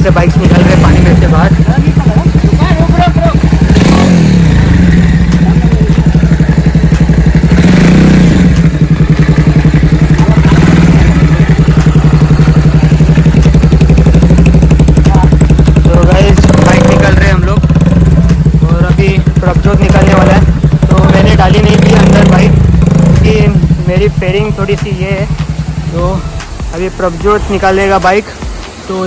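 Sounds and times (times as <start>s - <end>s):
motorcycle engine revving: 0.0s - 28.9s.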